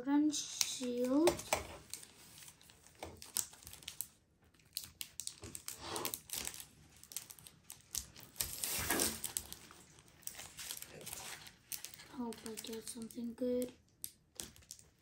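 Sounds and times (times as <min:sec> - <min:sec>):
foil wrapper crinkling: 0:00.6 - 0:15.0.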